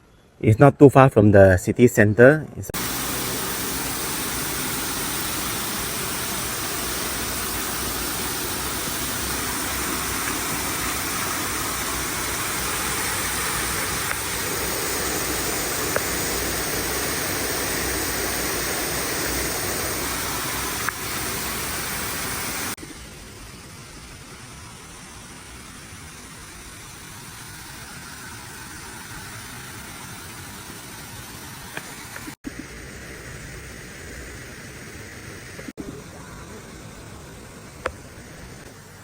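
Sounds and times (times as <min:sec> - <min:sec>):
steady rushing noise: 0:02.2 - 0:39.0.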